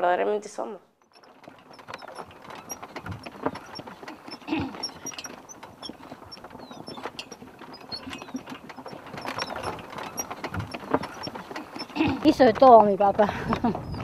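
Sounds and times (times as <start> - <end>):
cart and harness rattling: 1.0 - 14.0
hoof clops on dirt: 1.0 - 14.0.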